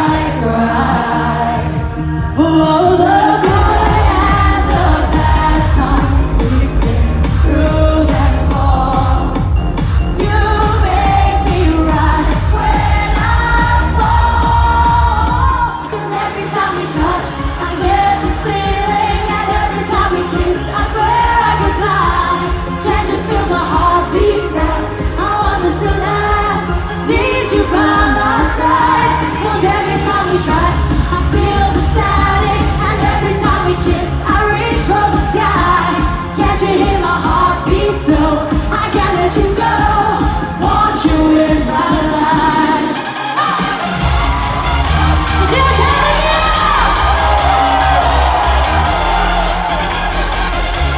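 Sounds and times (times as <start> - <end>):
pounding bass beat: 2.9 - 15.7, 17.0 - 50.9.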